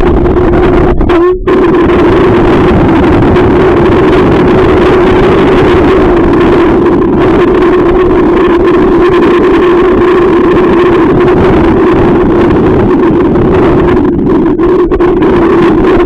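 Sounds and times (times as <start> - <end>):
small boat motor humming: 0.0 - 16.0
wind buffeting microphone: 0.0 - 16.0.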